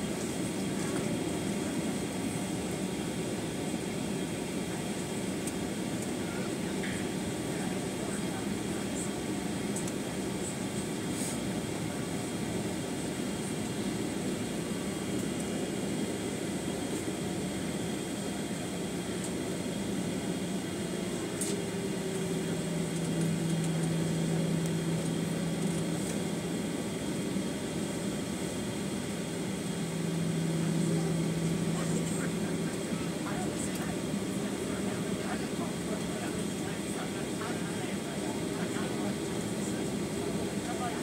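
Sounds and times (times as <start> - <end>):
jet engines idling: 0.0 - 41.0.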